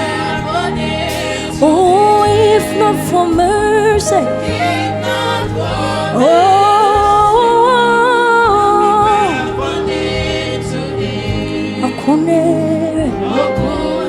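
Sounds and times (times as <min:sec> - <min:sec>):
instrumental backing: 0:00.0 - 0:14.0.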